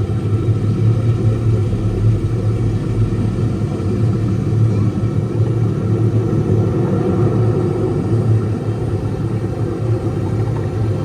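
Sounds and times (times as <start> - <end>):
low rumble inside submarine cabin: 0.0 - 11.0.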